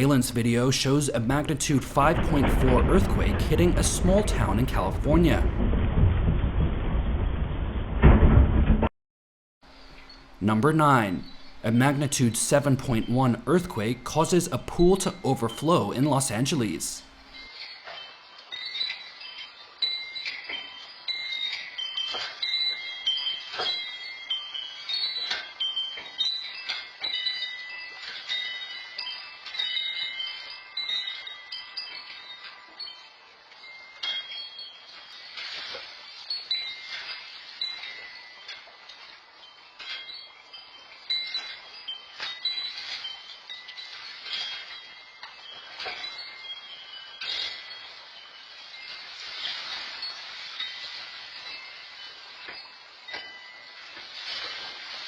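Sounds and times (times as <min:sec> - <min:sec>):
metal wind chimes ringing: 0:00.0 - 0:05.6, 0:09.7 - 0:55.0.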